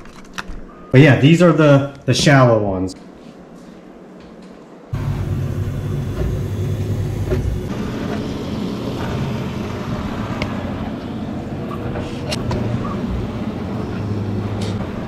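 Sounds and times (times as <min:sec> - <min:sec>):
printer motors and fans humming: 0:00.0 - 0:15.0.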